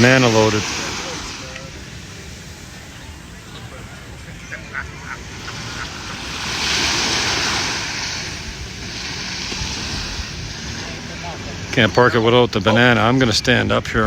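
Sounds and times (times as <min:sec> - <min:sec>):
ocean wave breaking on beach: 0:00.0 - 0:14.0
wind rumbling on microphone: 0:00.0 - 0:14.0.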